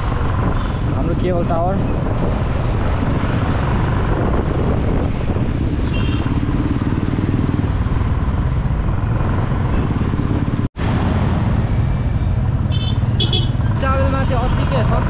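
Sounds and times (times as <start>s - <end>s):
motorcycle engine rumble: 0.0s - 15.0s
road and wind noise: 0.0s - 15.0s.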